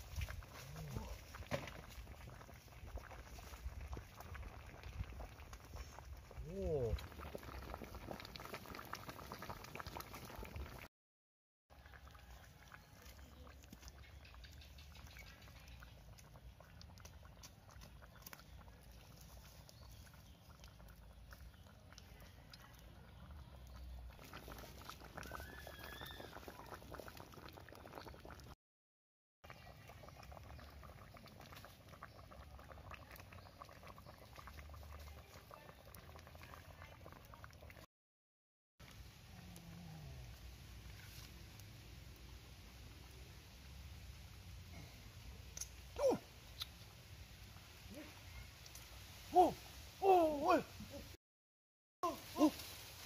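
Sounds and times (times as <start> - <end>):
sauce bubbling and popping: 0.0 - 10.9, 11.7 - 28.6, 29.4 - 37.9, 38.8 - 49.6.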